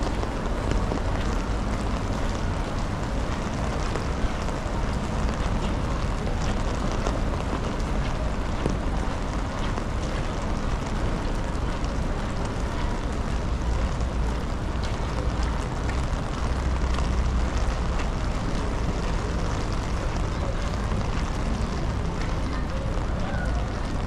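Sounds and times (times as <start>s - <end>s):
heavy rain on wet paving: 0.0s - 24.0s
wind rumbling on microphone: 0.0s - 24.0s.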